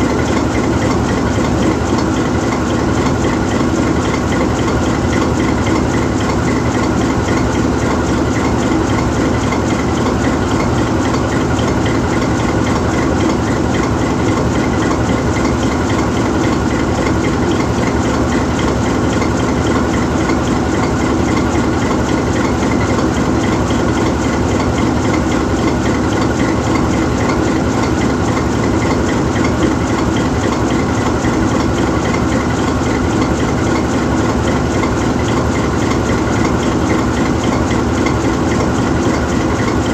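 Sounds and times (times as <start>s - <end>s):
locomotive diesel engine idling: 0.0s - 39.9s.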